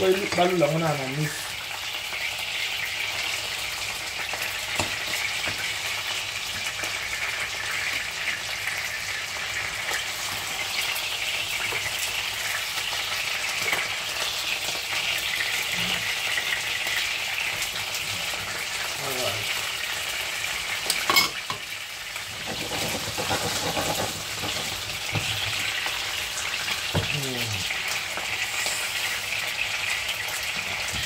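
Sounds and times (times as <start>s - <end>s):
fish sizzling in oil: 0.0s - 31.0s.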